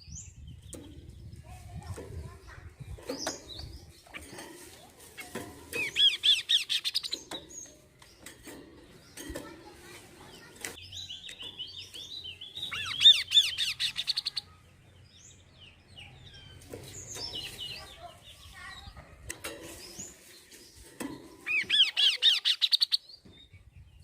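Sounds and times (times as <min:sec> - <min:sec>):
bird song rapid repeated notes: 0:00.0 - 0:02.0, 0:02.6 - 0:04.6, 0:05.3 - 0:24.0
soft bird chirps: 0:00.0 - 0:24.0.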